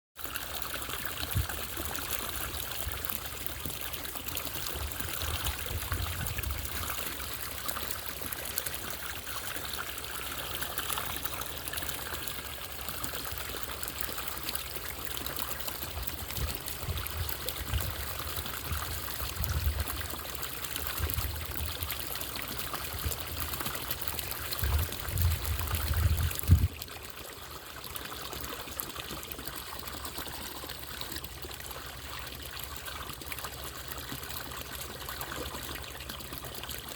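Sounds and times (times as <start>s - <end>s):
fountain water trickling: 0.2s - 36.9s.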